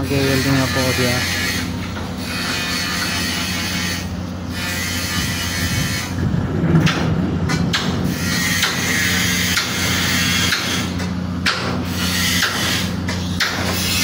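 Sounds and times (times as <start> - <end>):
welding equipment humming: 0.0 - 14.0.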